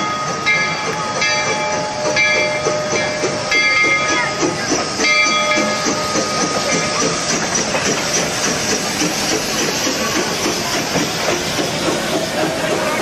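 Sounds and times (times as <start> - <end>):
steam locomotive hissing: 0.0 - 13.0
wheels clattering on rails: 0.0 - 13.0.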